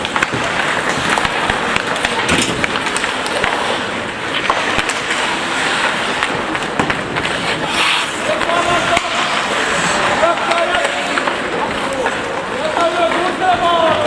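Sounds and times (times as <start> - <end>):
skate blades scraping ice: 0.0 - 14.0
sticks and puck clacking: 0.0 - 14.0.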